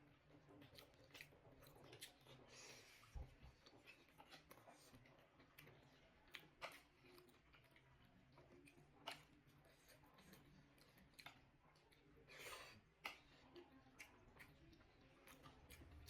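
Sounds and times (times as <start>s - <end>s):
faint chewing: 0.0s - 16.0s.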